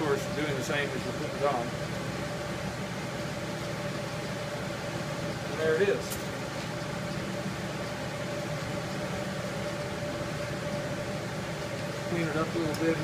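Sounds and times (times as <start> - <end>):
machine hum with faint whine: 0.0 - 13.0.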